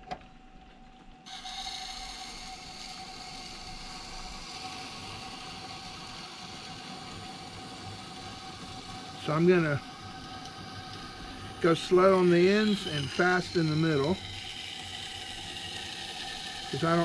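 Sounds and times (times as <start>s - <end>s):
machine hum: 0.0s - 17.0s
knife grinding on stone: 1.3s - 8.8s, 9.8s - 17.0s.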